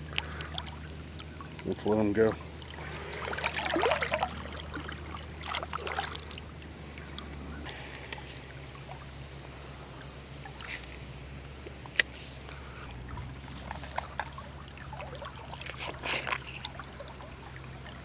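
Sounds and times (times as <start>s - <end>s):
fish splashing in water: 0.0s - 18.0s.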